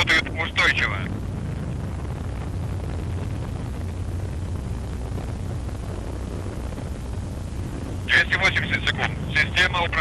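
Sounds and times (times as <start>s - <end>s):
low rumble with hiss: 0.0s - 10.0s.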